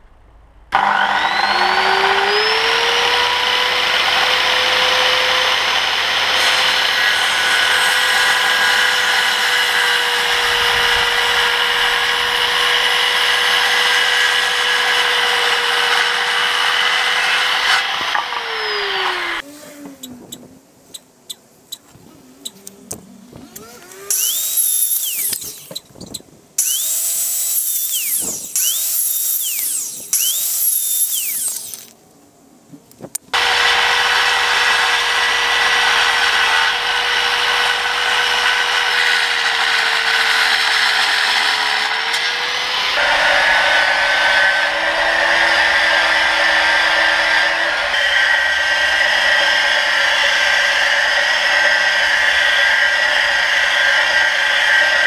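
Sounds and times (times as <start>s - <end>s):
circular saw cutting wood: 0.7s - 32.0s, 33.3s - 55.0s.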